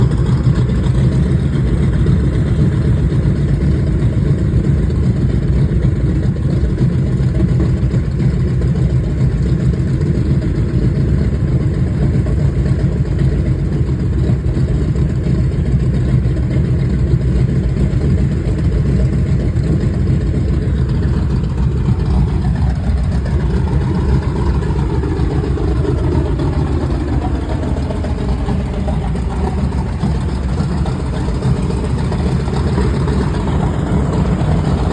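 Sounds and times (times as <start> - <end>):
radial aircraft engine droning: 0.0 - 34.9.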